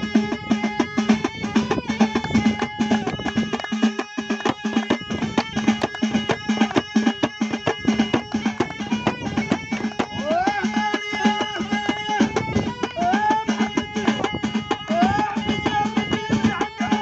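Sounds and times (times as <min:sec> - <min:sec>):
held melodic tones: 0:00.0 - 0:17.0.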